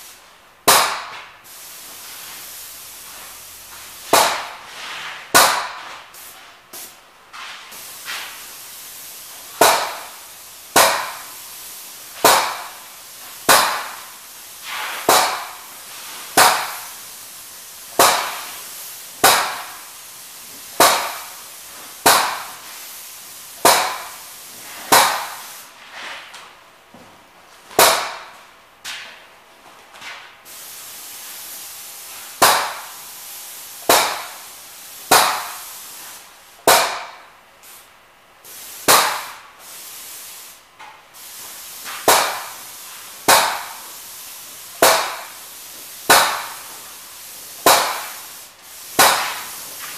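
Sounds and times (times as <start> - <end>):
paint sprayer hissing: 0.0 - 26.1, 30.4 - 49.9.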